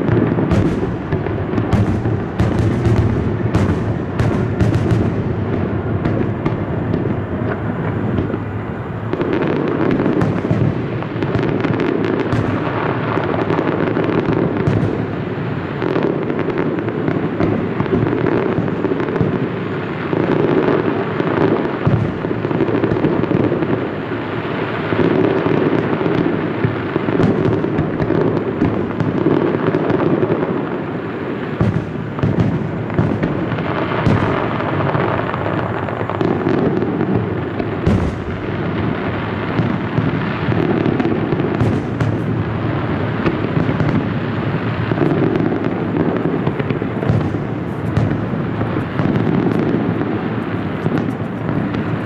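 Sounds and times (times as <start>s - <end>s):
fireworks booming and cracking: 0.0s - 52.0s.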